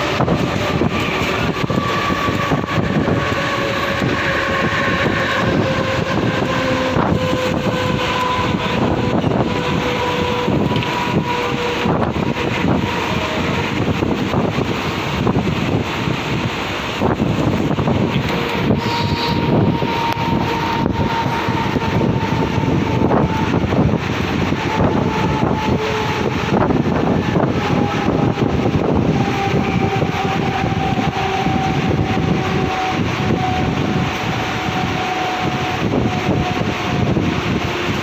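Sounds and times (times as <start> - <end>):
train rumbling and rattling: 0.0 - 38.0.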